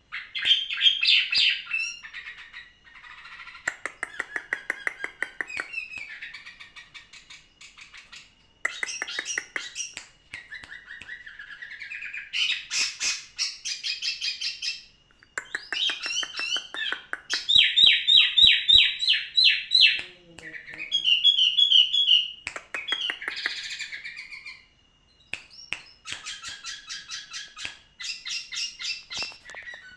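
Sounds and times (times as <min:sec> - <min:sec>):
songbird singing trills: 0:00.1 - 0:29.9.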